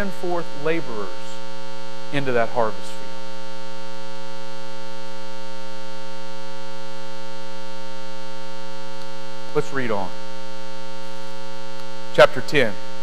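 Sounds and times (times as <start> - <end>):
electrical hum and buzz: 0.0 - 13.0.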